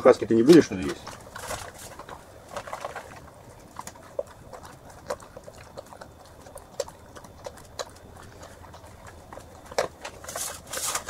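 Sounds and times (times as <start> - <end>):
dog crunching kibble: 0.0 - 11.0.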